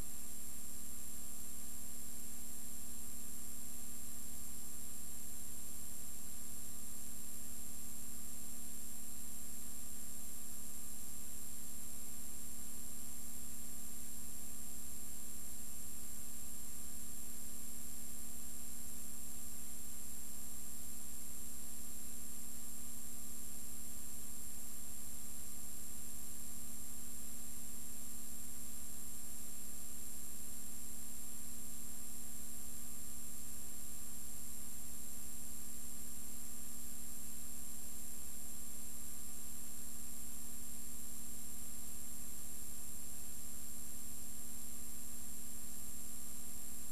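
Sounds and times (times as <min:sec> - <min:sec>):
electrical hum with hiss: 0:00.0 - 0:46.9
faint high whine: 0:00.0 - 0:46.9.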